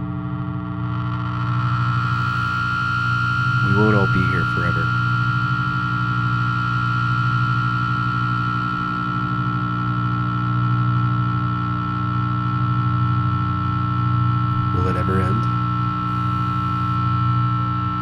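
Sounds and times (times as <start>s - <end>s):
electric drone of held tones: 0.0s - 18.0s
low hum: 0.0s - 18.0s.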